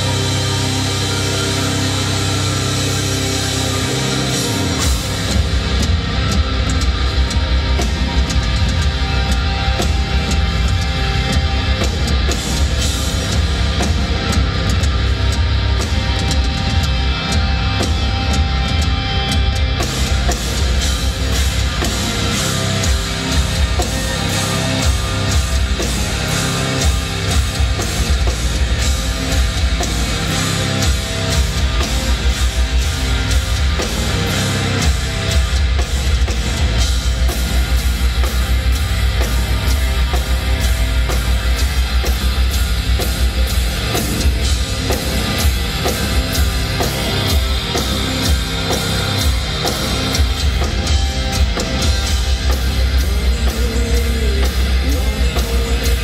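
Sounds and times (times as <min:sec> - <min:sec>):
metal band playing: 0:00.0 - 0:56.0.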